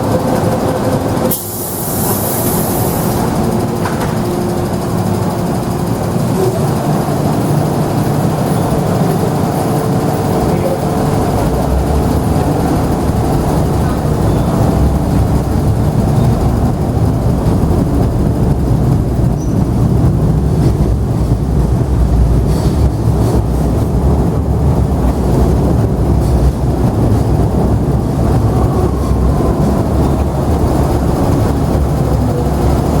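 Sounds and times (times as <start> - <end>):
traction motor whine: 0.0 - 33.0
train wheels rumbling: 0.0 - 33.0.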